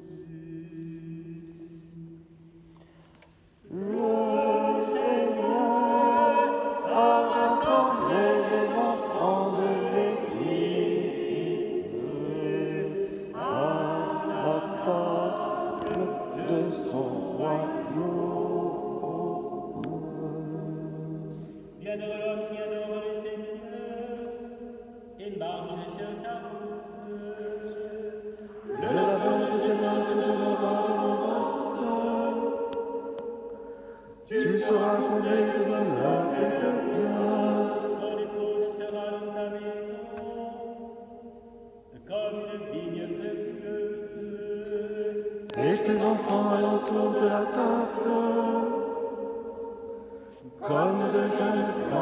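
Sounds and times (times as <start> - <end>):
choir singing in harmony: 0.0 - 2.7, 3.6 - 52.0
psalm chanting: 0.0 - 52.0.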